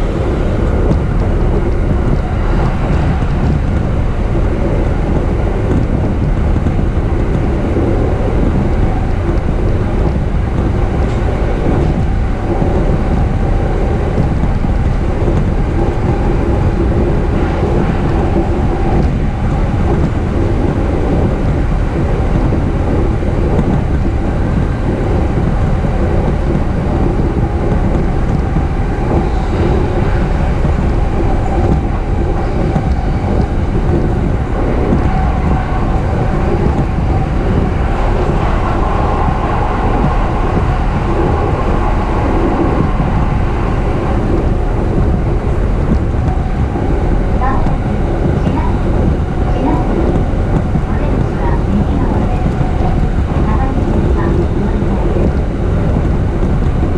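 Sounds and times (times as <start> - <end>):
train rumble and rail noise: 0.0 - 56.9.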